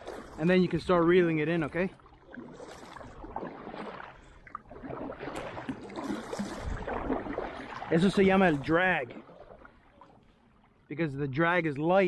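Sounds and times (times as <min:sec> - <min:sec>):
kayak paddle strokes: 0:00.0 - 0:10.8
water rushing along hull: 0:00.0 - 0:12.0.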